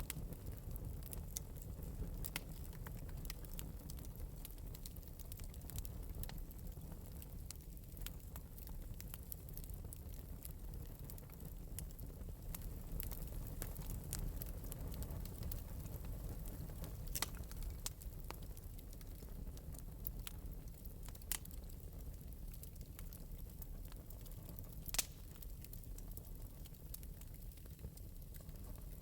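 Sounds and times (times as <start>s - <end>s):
fire low rumble: 0.0s - 29.0s
wood fire crackling and popping: 0.0s - 29.0s.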